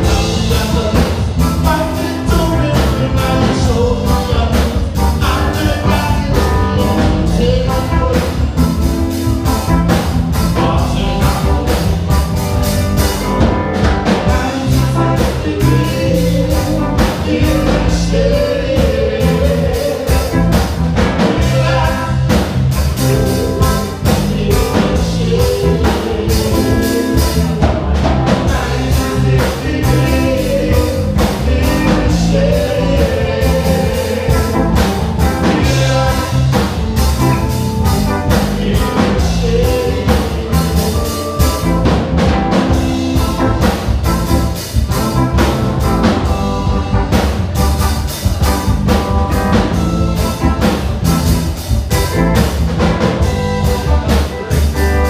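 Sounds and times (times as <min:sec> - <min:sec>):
person singing: 0:00.0 - 0:09.2, 0:10.4 - 0:12.4, 0:14.0 - 0:47.2
live band playing: 0:00.0 - 0:55.0.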